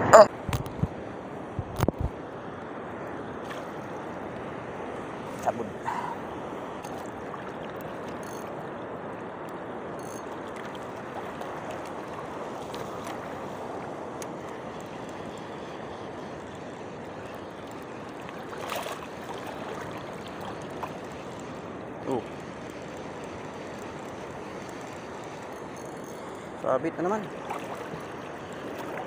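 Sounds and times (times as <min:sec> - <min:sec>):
sea water sloshing: 0:03.3 - 0:29.0.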